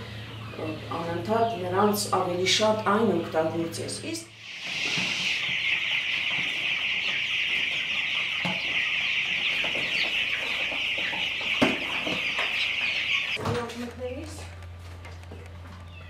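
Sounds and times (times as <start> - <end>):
chicks peeping: 0.0 - 14.5.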